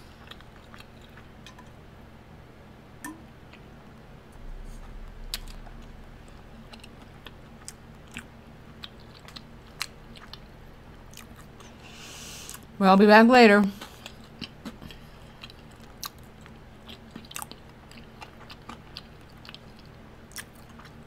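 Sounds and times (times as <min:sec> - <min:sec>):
person chewing food: 0:00.0 - 0:01.7, 0:04.6 - 0:12.7, 0:13.7 - 0:21.0.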